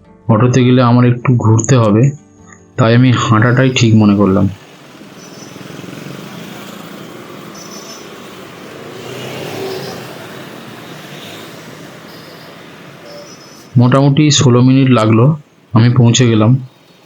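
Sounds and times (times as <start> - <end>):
street traffic noise: 2.6 - 17.0
vehicle passing by: 2.9 - 17.0.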